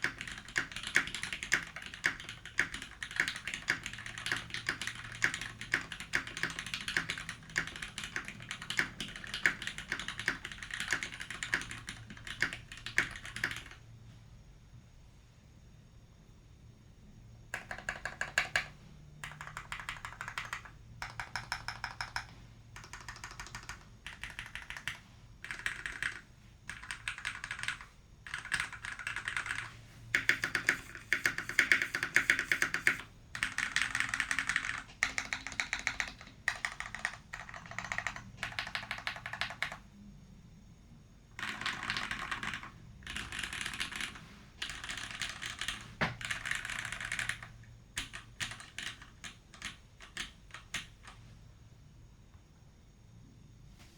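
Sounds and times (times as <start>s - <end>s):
mechanical keyboard typing: 0.0s - 13.8s, 17.6s - 39.8s, 41.4s - 51.2s.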